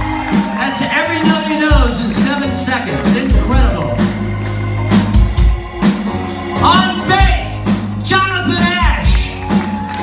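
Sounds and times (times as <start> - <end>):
bass guitar: 0.0 - 10.0
drum kit: 0.0 - 10.0.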